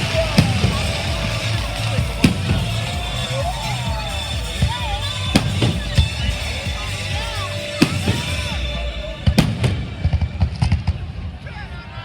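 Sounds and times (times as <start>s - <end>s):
music with steady bass: 0.0s - 10.6s
fireworks cracks and booms: 0.0s - 11.3s.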